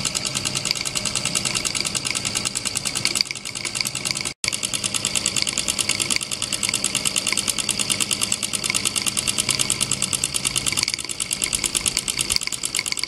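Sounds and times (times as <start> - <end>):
toy steam engine chuffing: 0.0 - 13.0.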